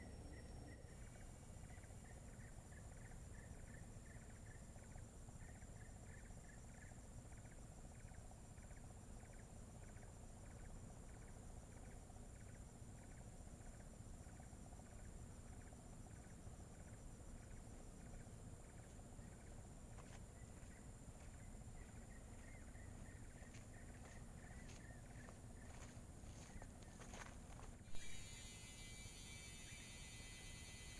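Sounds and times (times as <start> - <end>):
high thin insect drone: 0.0 - 30.9.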